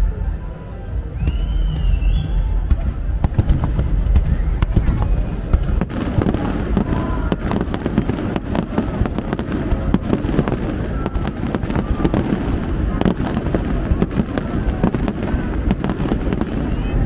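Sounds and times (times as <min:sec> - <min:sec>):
fireworks bangs and pops: 0:01.2 - 0:17.0.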